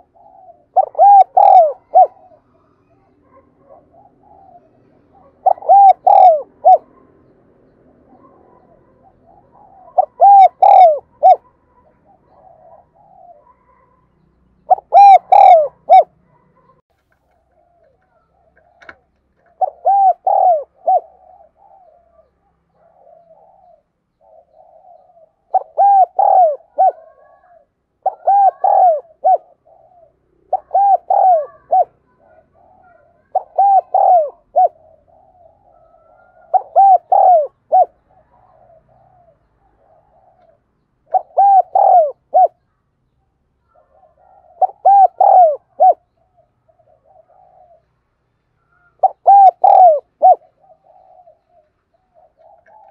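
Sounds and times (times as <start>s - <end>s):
soft low cooing: 0.0s - 6.9s, 8.0s - 13.9s, 14.7s - 16.7s, 19.5s - 42.6s, 43.7s - 47.9s, 48.6s - 52.9s
dove cooing phrases: 0.0s - 14.0s, 14.6s - 16.8s, 17.4s - 42.7s, 43.7s - 52.9s.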